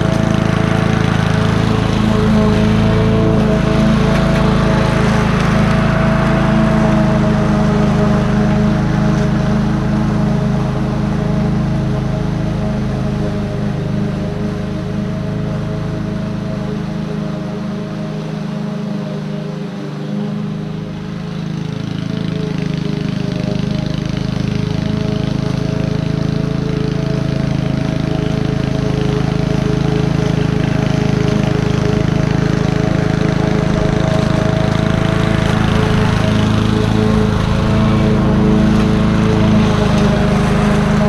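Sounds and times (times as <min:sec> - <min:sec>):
lawn mower engine running: 0:00.0 - 0:41.0.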